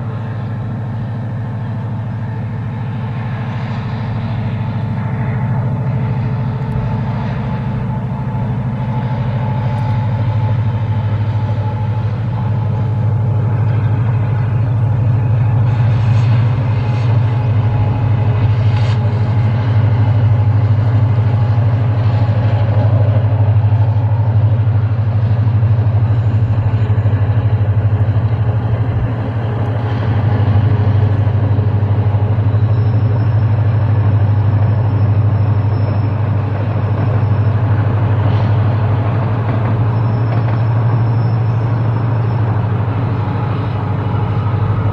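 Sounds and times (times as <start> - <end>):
distant diesel locomotive drone: 0.0 - 44.9.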